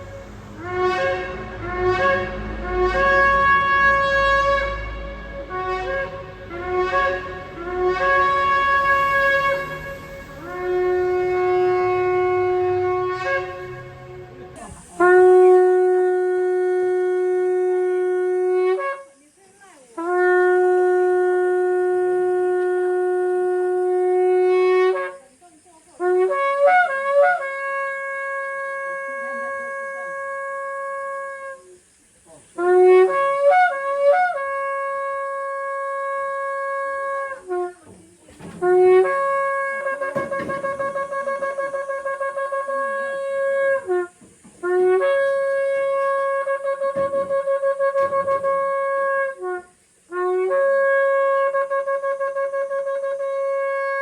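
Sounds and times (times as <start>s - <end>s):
ram's horn blasts: 0.0s - 19.2s, 20.0s - 25.3s, 32.6s - 54.0s.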